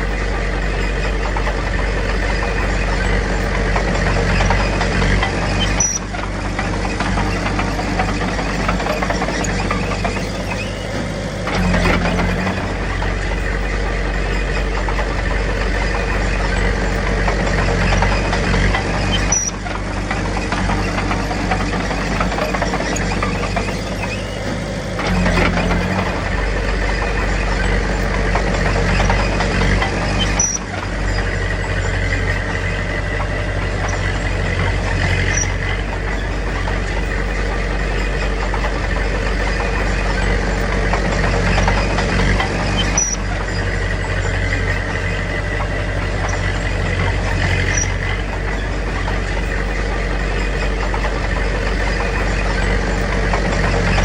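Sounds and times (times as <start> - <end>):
diesel bulldozer engine under load: 0.0 - 54.0.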